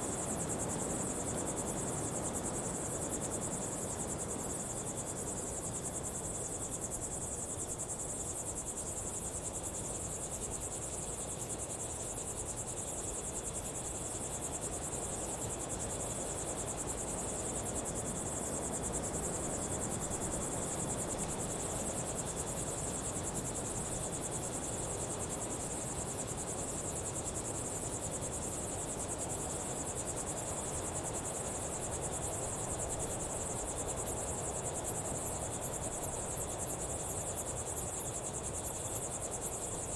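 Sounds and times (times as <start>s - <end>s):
background hiss: 0.0s - 39.9s
high-pitched insect trill: 0.0s - 39.9s
low steady insect tone: 0.0s - 39.9s.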